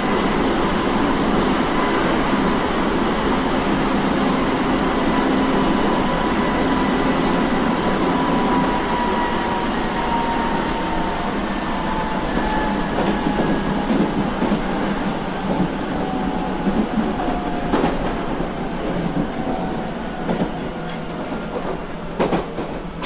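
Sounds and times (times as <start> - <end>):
subway car rumbling on rails: 0.0 - 23.0.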